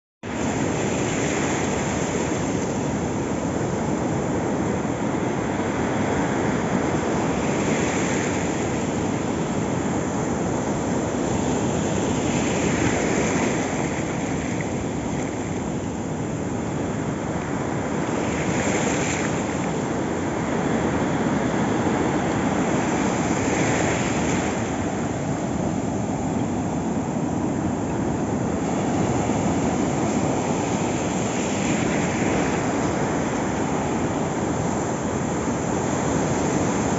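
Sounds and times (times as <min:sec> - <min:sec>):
ocean surf washing on beach: 0:00.2 - 0:36.9.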